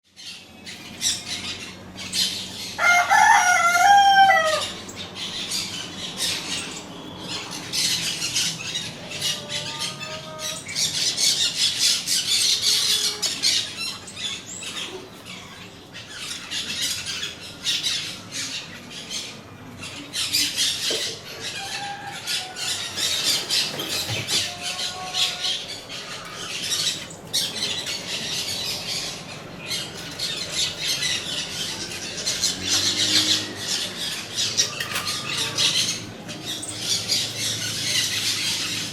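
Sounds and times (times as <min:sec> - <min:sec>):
parakeets chattering and screeching: 0:00.1 - 0:38.9.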